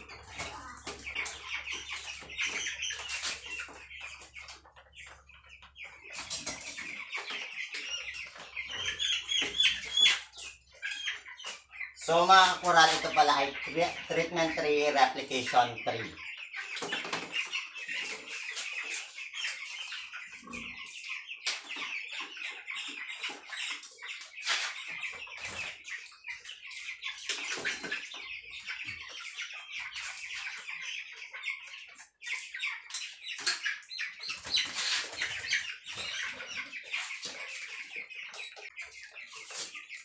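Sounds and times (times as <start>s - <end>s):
chickens cheeping and clucking: 0.0s - 40.0s.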